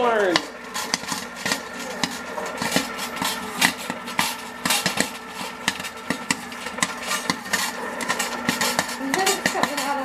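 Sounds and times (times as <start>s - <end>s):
popcorn cart hum: 0.0s - 10.0s
popcorn popping: 0.0s - 10.0s.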